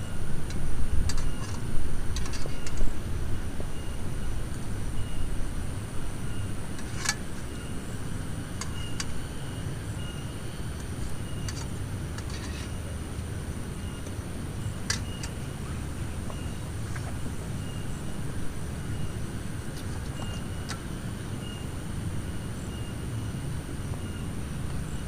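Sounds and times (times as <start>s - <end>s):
heavy rain and wind rumble: 0.0s - 25.0s.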